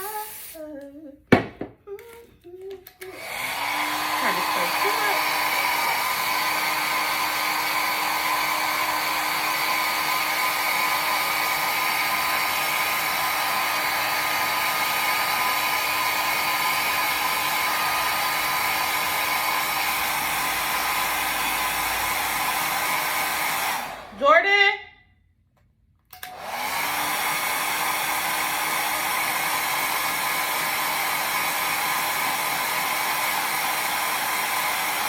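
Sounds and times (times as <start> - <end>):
hair dryer blowing: 0.0 - 0.6, 2.8 - 24.8, 26.1 - 35.0.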